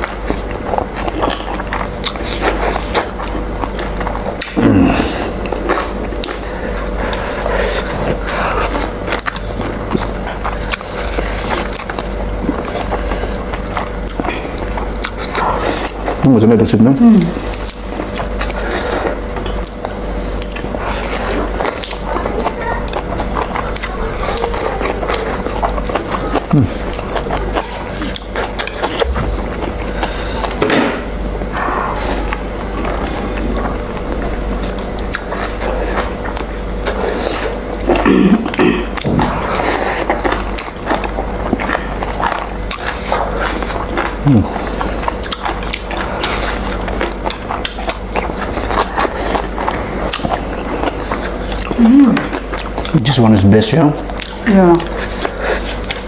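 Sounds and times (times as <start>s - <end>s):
noodles being slurped and chewed: 0.0s - 56.0s.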